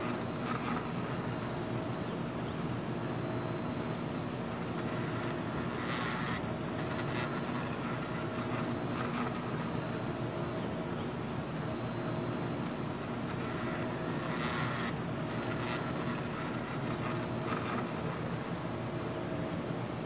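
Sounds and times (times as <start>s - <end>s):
cooling fan running: 0.0s - 20.0s
machine hum with steady tones: 0.0s - 20.0s.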